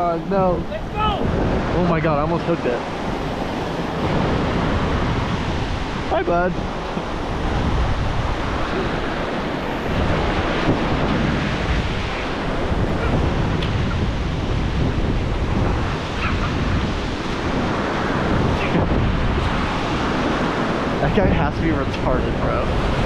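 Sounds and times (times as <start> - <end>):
ocean surf washing in: 0.0 - 23.0
wind buffeting microphone: 0.0 - 23.0.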